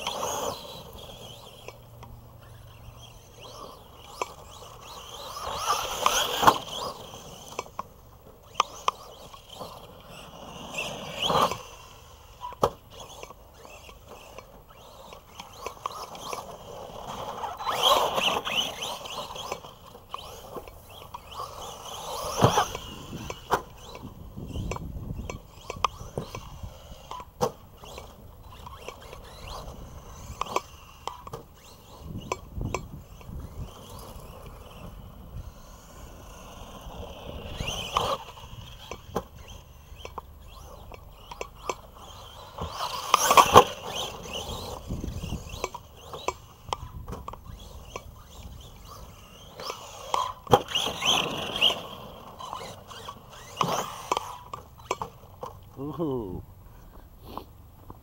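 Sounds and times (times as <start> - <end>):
rc truck motor whine: 0.0 - 58.0
knocks and scrapes from landings: 2.5 - 55.6.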